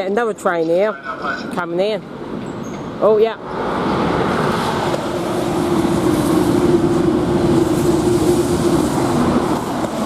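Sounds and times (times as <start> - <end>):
high-speed train passing: 0.0 - 10.0.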